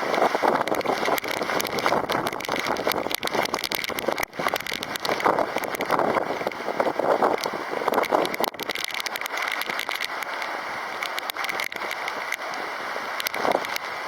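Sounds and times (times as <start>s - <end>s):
strong wind and rain: 0.0s - 14.0s.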